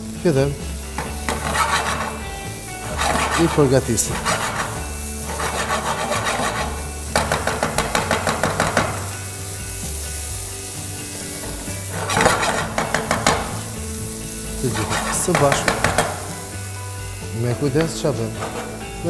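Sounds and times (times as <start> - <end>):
food sizzling in a pan: 0.0 - 19.0
wooden spoon scraping a pan: 1.0 - 9.3, 10.0 - 16.7, 17.6 - 19.0.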